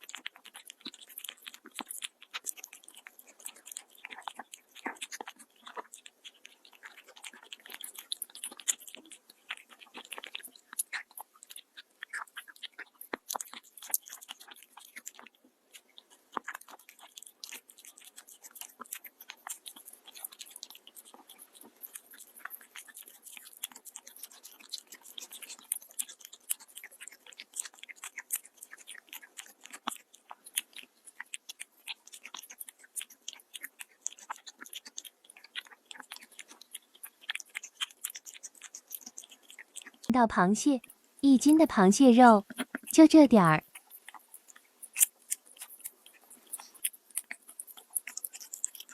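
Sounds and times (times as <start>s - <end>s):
cat crunching food: 0.0s - 40.1s, 42.4s - 43.0s, 43.6s - 48.9s.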